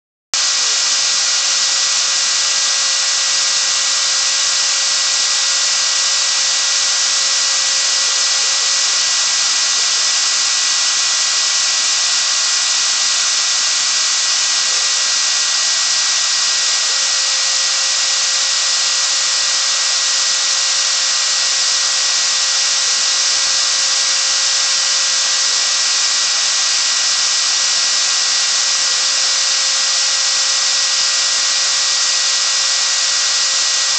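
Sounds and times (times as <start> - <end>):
router spindle high-pitched whine: 0.4 - 33.9.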